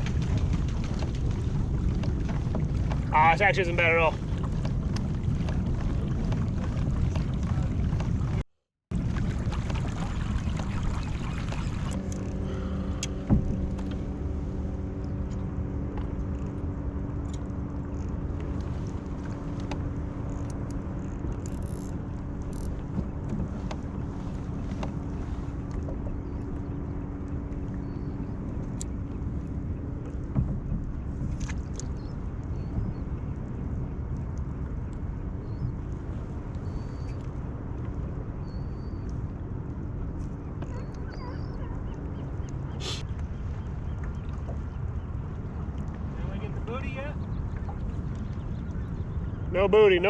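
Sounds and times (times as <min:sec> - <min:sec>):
boat engine humming: 0:00.0 - 0:50.0
water noise: 0:00.0 - 0:50.0
wind: 0:00.0 - 0:50.0.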